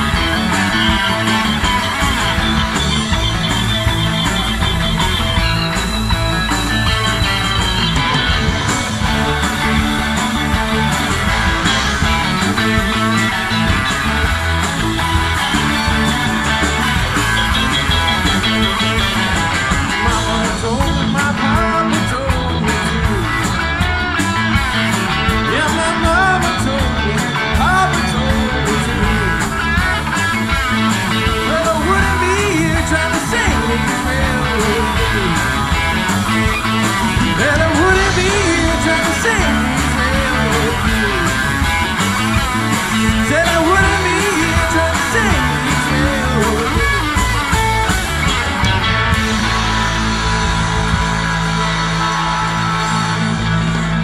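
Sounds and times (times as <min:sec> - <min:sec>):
bass guitar: 0:00.0 - 0:54.0
drums with cymbals: 0:00.0 - 0:54.0
electric guitars with bending lead: 0:00.0 - 0:54.0
keyboards: 0:00.0 - 0:54.0.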